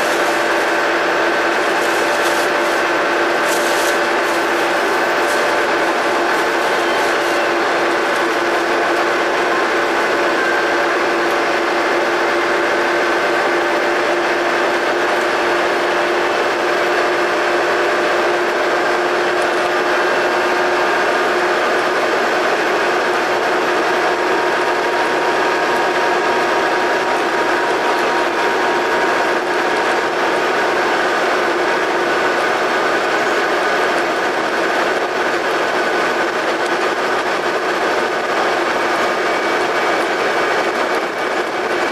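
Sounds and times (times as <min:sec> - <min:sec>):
bus engine running: 0:00.0 - 0:41.9
constant whine: 0:00.0 - 0:41.9.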